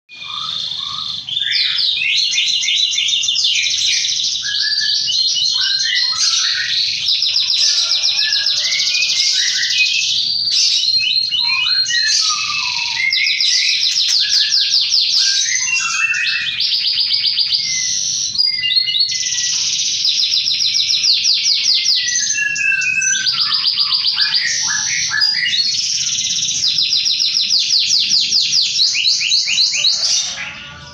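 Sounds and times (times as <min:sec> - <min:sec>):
canary singing trills: 0:00.1 - 0:30.9.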